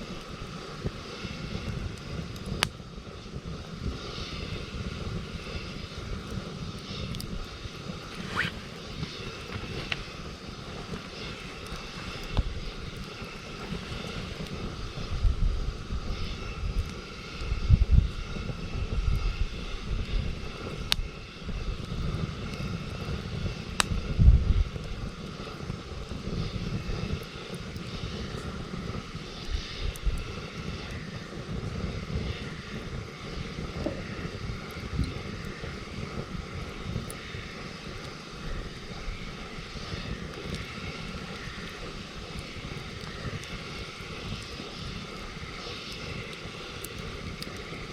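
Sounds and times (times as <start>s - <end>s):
campfire rumble: 0.0s - 47.9s
campfire pops: 0.1s - 2.9s, 3.6s - 15.2s, 20.0s - 21.2s, 21.8s - 31.0s, 31.6s - 47.9s.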